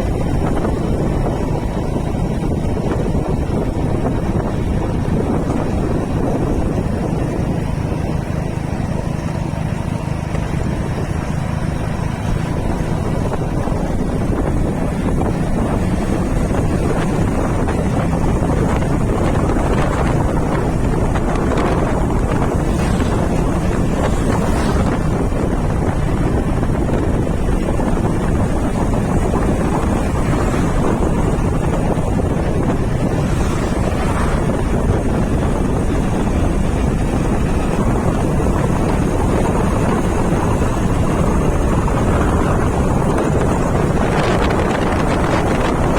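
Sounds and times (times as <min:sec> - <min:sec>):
motorcycle engine running: 0:00.0 - 0:45.9
wind rushing over microphone: 0:00.0 - 0:45.9.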